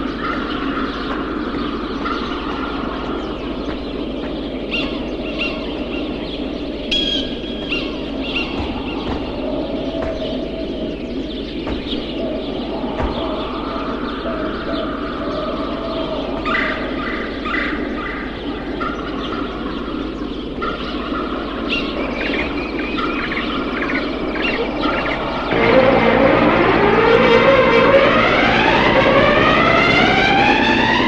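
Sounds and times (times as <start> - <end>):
quick repeated bird calls: 0.0 - 25.6
birds chirping: 0.0 - 31.0.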